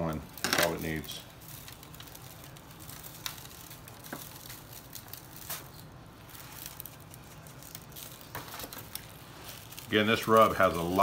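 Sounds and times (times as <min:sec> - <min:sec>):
soft squishes of meat: 0:00.0 - 0:11.0
foil pan crinkles and taps: 0:00.1 - 0:11.0.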